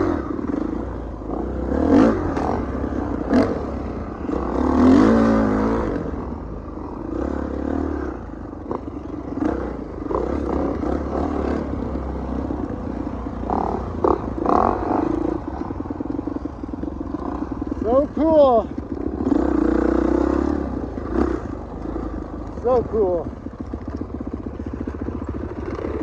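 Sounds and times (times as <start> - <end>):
bikes knocking and rattling: 0.0 - 26.0
dirt bike engines revving: 0.0 - 26.0.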